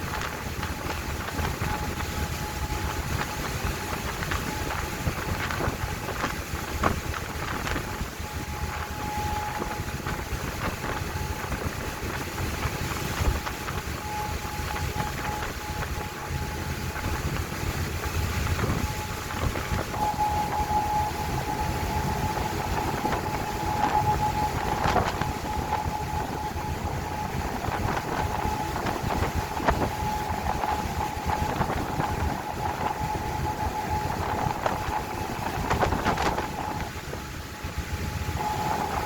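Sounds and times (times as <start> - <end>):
boat engine rumble: 0.0 - 39.0
thin steady whine: 0.0 - 39.0.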